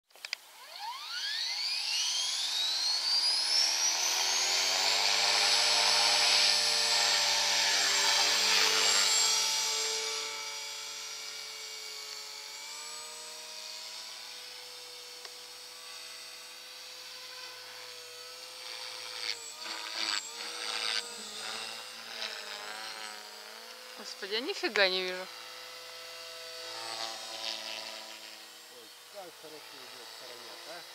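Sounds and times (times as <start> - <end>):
rc helicopter motor whine: 0.1 - 30.9.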